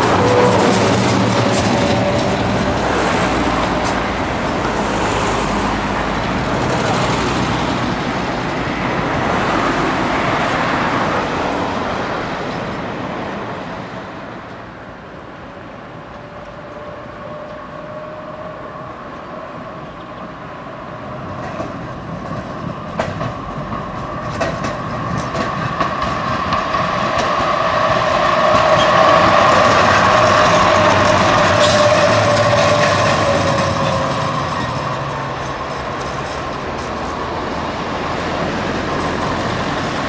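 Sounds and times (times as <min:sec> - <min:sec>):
tram wheels clicking over rail joints: 0:00.0 - 0:18.5, 0:20.9 - 0:40.0
road traffic passing: 0:00.0 - 0:40.0
tram whine: 0:00.0 - 0:40.0.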